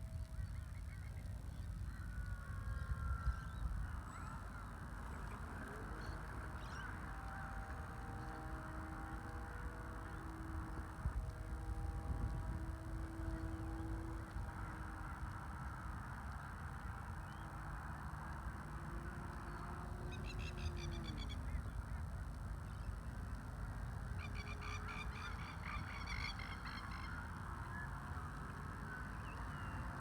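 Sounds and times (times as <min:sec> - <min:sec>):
steady low rumble: 0:01.2 - 0:30.0
faint motor tone gliding down: 0:02.2 - 0:30.0.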